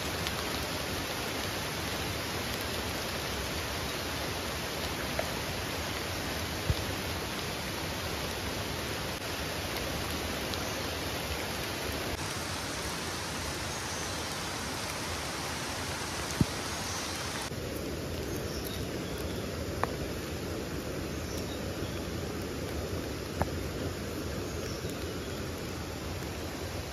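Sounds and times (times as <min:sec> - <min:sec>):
outdoor ambience hiss: 0:00.0 - 0:26.9.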